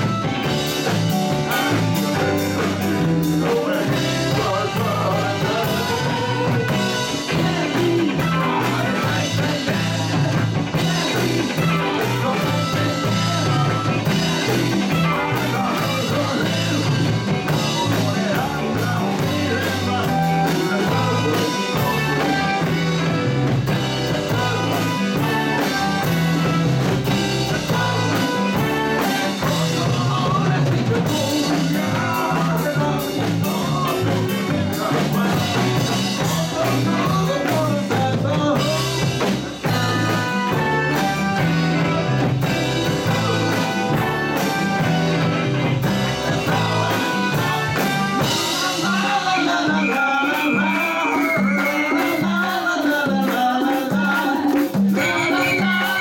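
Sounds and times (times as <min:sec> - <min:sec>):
live rock band playing: 0:00.0 - 0:56.0
man singing into microphone: 0:00.0 - 0:56.0.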